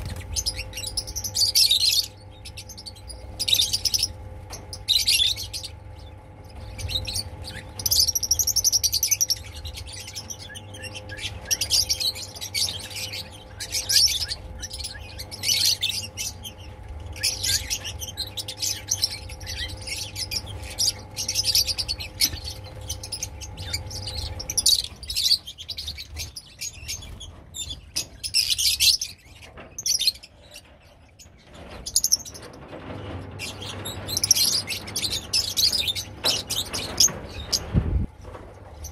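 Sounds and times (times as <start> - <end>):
lovebirds chirping and squeaking: 0.0 - 38.9
steady low hum: 0.0 - 38.9.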